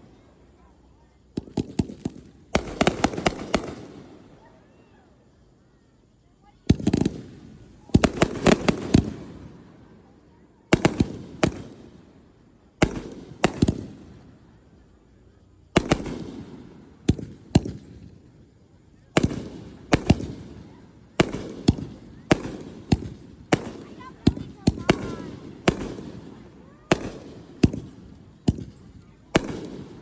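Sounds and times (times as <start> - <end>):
fireworks bursting with loud bangs: 0.0 - 30.0.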